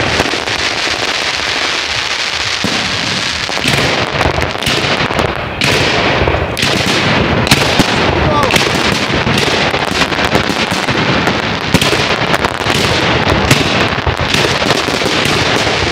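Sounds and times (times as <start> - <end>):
fireworks bangs: 0.0 - 15.9
fireworks crackling and popping: 0.0 - 15.9.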